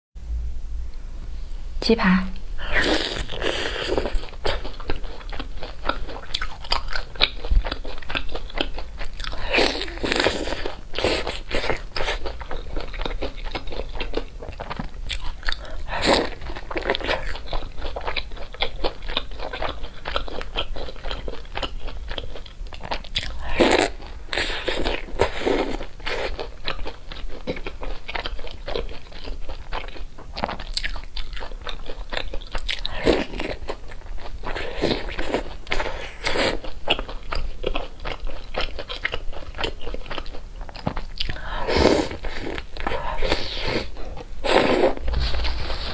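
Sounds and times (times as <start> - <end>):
crunching bites and chewing: 2.8 - 45.9.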